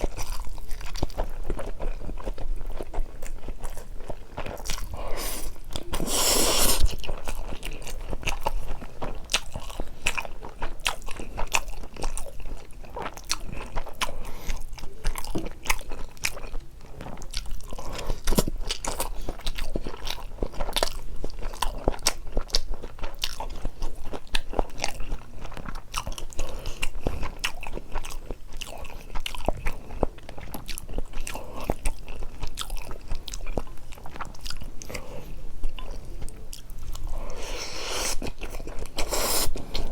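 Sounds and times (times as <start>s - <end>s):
chewing and wet mouth clicks: 0.0s - 35.0s.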